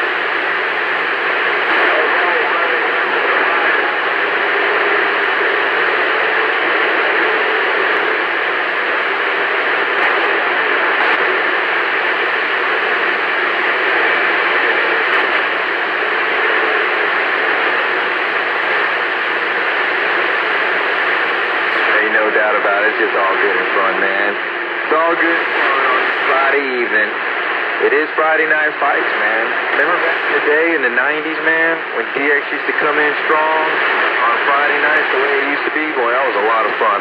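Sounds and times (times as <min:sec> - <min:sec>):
radio static hiss: 0:00.0 - 0:37.0.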